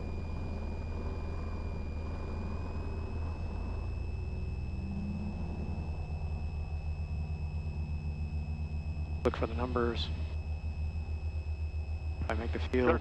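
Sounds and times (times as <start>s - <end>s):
airplane engine droning: 0.0s - 13.0s
steady high whine: 0.0s - 13.0s.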